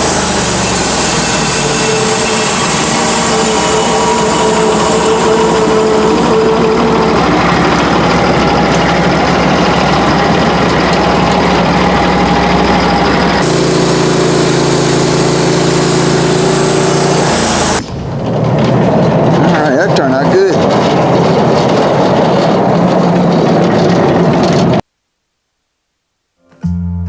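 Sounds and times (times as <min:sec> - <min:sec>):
sawmill engine running: 0:00.0 - 0:24.8.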